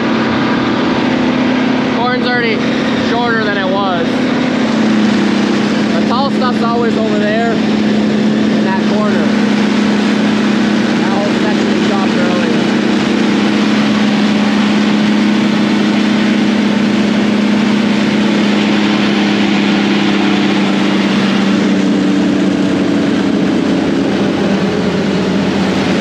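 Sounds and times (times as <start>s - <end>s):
harvester machine drone: 0.0s - 26.0s.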